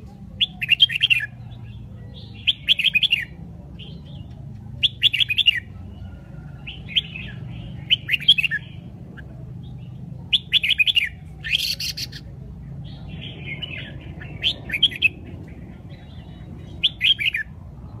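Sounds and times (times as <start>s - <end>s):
bird singing warbled phrases: 0.0s - 18.0s
low background hum: 0.0s - 18.0s.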